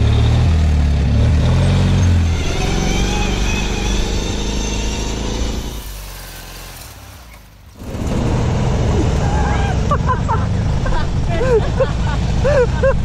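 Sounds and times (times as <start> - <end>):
lawn tractor engines revving: 0.0 - 13.0.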